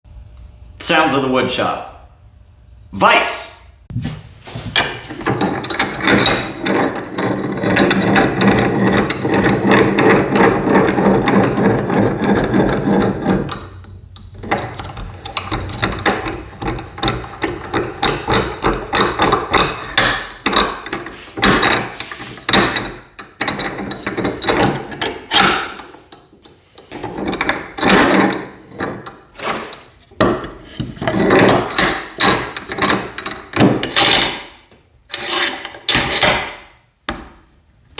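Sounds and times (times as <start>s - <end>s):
vise mechanical rattling: 4.8s - 36.8s.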